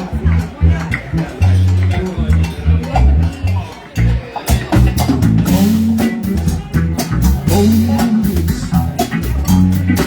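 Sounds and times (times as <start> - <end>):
bass guitar: 0.0 - 10.0
drum kit beat: 0.0 - 10.0
electric guitar: 0.0 - 10.0.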